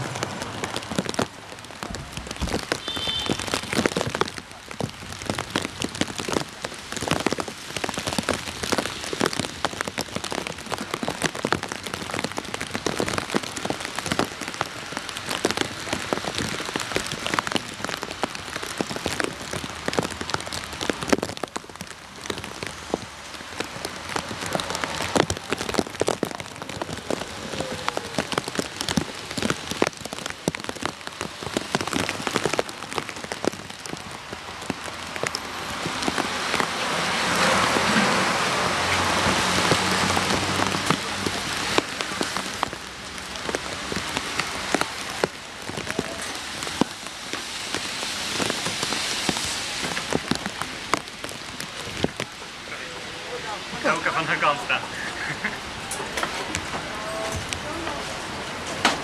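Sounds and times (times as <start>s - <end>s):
rain patter: 0.0s - 59.0s.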